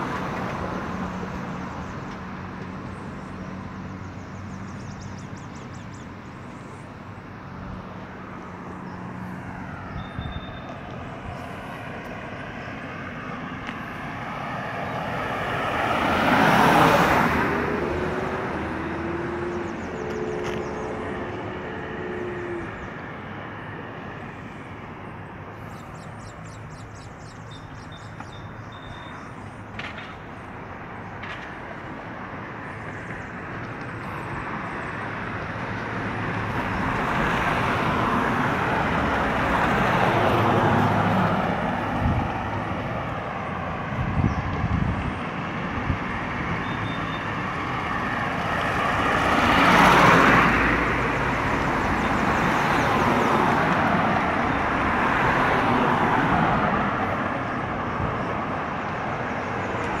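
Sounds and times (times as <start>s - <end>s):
cars driving past: 0.0s - 60.0s.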